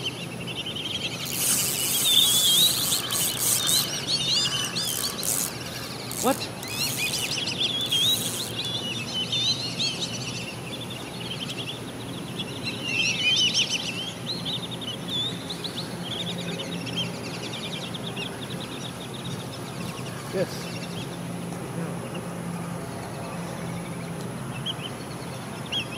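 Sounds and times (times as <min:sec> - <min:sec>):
outdoor background noise: 0:00.0 - 0:25.9
songbirds chirping: 0:00.0 - 0:25.9.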